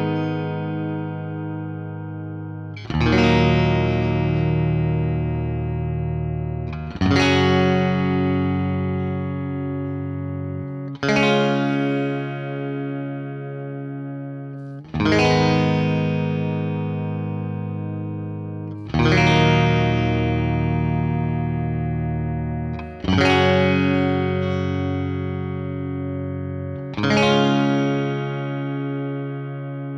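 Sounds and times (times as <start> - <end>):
electric guitar chords ringing: 0.0 - 29.9.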